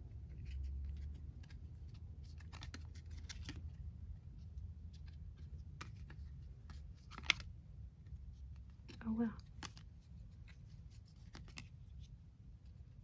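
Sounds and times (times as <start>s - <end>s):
faint clicks and rustles of handling: 0.0s - 13.0s.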